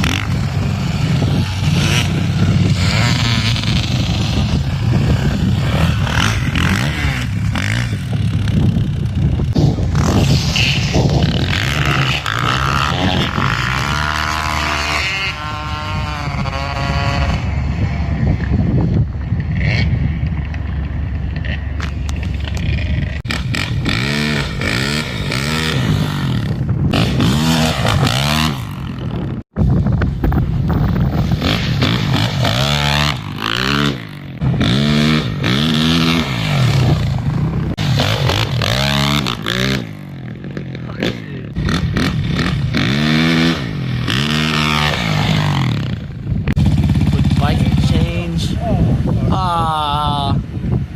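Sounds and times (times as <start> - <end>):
dirt bike engines revving: 0.0 - 29.5, 30.7 - 50.9.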